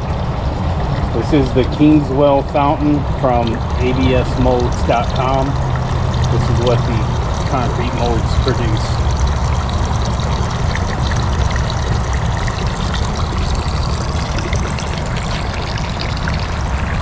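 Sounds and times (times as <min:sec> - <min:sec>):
steady low rumble: 0:00.0 - 0:17.0
fountain water pouring and trickling: 0:00.2 - 0:17.0.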